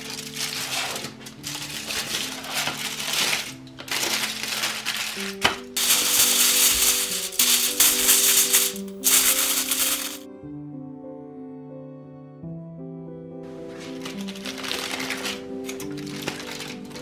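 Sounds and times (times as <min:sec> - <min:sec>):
aluminium foil crinkling: 0:00.0 - 0:10.3, 0:13.5 - 0:17.0
background music: 0:00.0 - 0:17.0.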